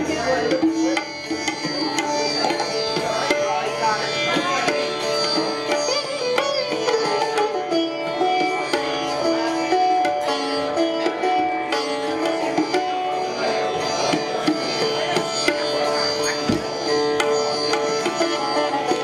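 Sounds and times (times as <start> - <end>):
sitar melody: 0.0 - 19.0
tabla strokes: 0.0 - 19.0.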